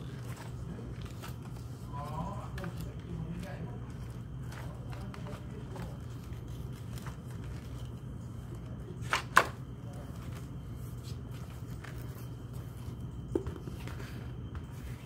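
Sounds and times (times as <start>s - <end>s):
planner pages turning: 0.0s - 15.0s
steady low hum: 0.0s - 15.0s.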